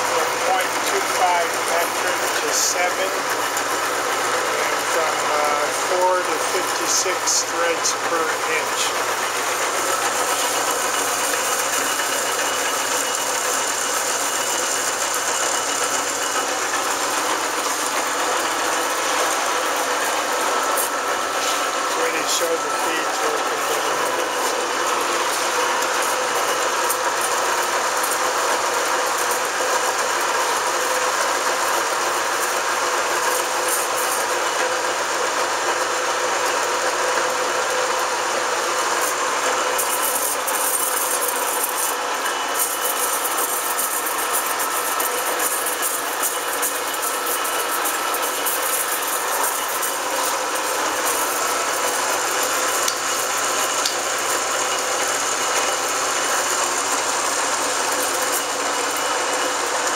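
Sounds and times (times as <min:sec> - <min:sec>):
tool cutting metal bar: 0:00.0 - 0:35.3, 0:37.1 - 0:59.9
lathe running: 0:00.0 - 0:59.9.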